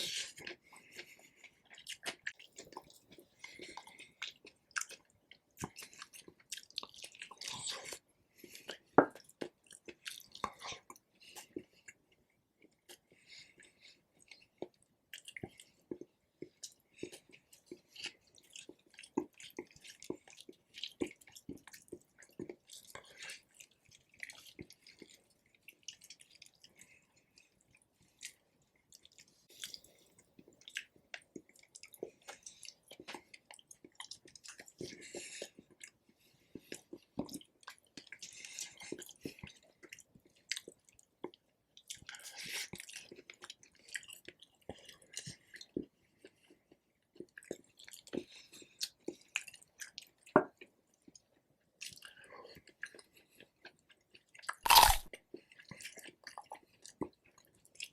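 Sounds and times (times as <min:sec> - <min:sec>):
mouth chewing food: 0:00.0 - 0:57.9.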